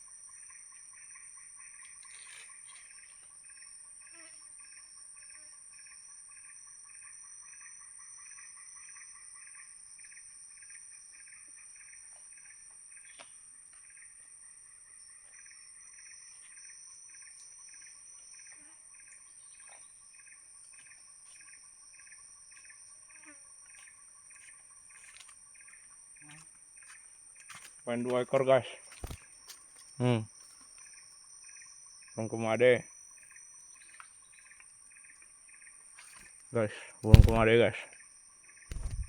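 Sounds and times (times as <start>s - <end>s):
high-pitched insect drones: 0.0s - 36.4s
pulsing insect chirp: 0.0s - 39.0s.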